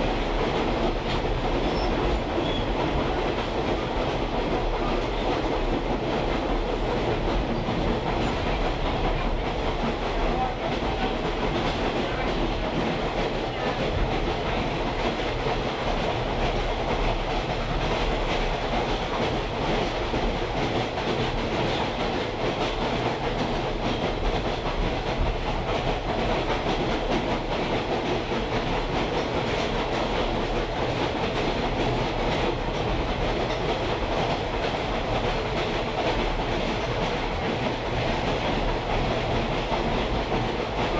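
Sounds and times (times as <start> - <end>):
train wheels rattling on rails: 0.0 - 40.9.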